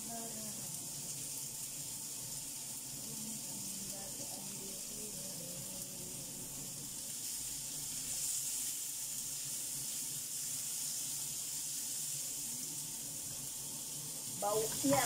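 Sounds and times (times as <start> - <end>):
sauce sizzling in a frying pan: 0.0 - 15.0.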